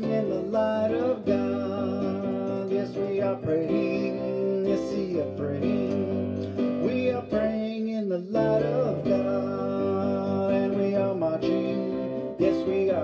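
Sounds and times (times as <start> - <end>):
electronic keyboard playing: 0.0 - 13.0
man singing into a microphone: 0.0 - 13.0.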